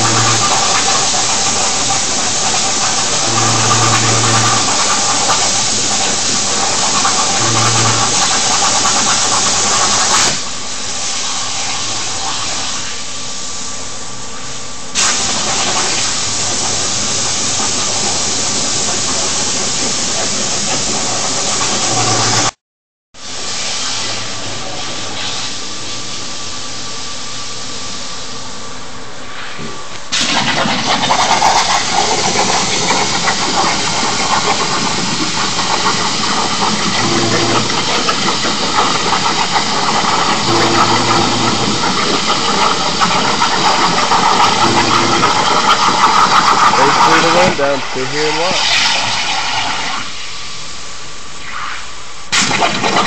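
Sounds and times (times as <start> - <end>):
plasma cutter hissing: 0.0 - 13.2, 15.0 - 22.5, 23.2 - 26.3, 29.4 - 50.6.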